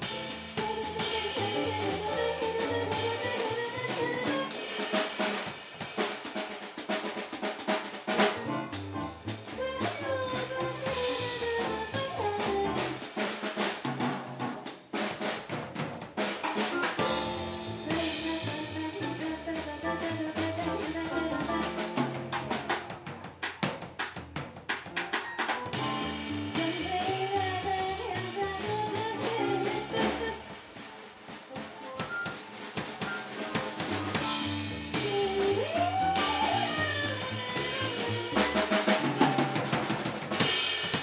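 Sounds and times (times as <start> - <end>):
busy drum kit: 0.0 - 41.0
jazz band playing: 0.0 - 41.0.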